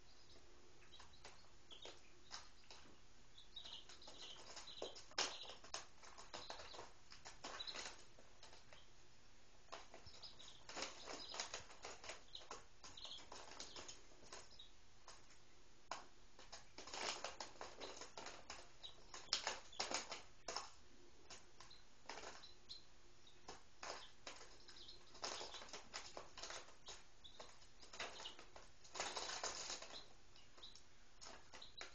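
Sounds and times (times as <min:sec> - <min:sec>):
chicks peeping: 0:00.0 - 0:09.0, 0:09.6 - 0:31.9
chicks rustling and pecking: 0:00.0 - 0:31.9.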